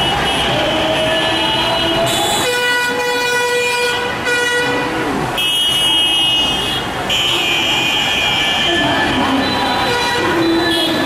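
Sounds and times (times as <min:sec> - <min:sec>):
street and crowd noise: 0:00.0 - 0:11.0.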